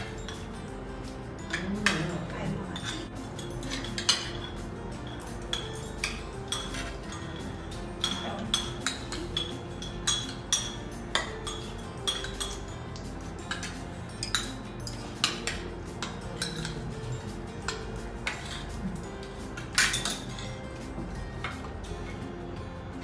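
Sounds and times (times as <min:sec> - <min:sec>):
cutlery clinking on plates: 0:00.0 - 0:22.2
background music: 0:00.0 - 0:23.0.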